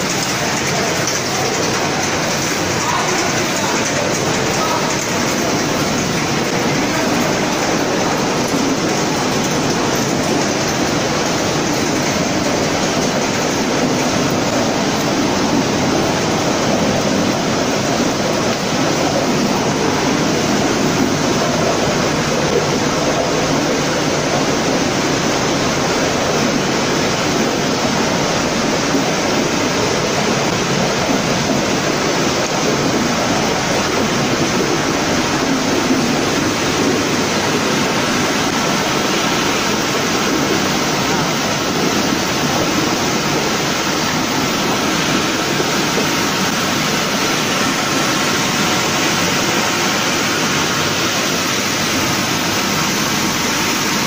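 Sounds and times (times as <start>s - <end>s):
processing line machinery rushing: 0.0s - 54.0s.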